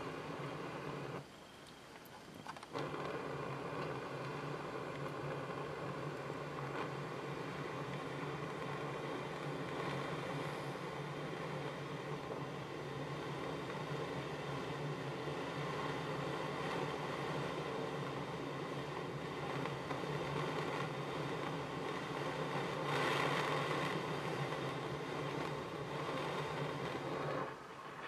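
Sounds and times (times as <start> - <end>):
blowpipe torch flame hissing: 0.0 - 28.0.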